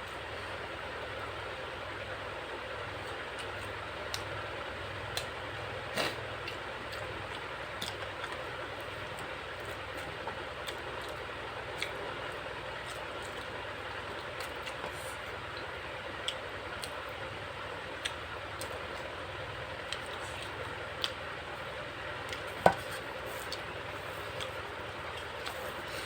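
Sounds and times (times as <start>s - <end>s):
person eating with clicks and smacks: 2.9s - 26.0s.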